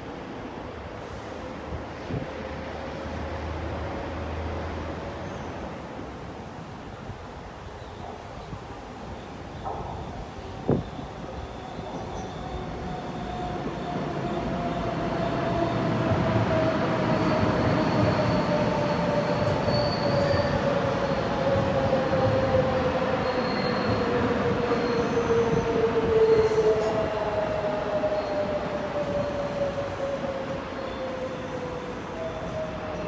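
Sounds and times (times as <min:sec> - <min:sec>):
high train whine: 0:00.0 - 0:33.0
train rumbling through station: 0:00.0 - 0:33.0.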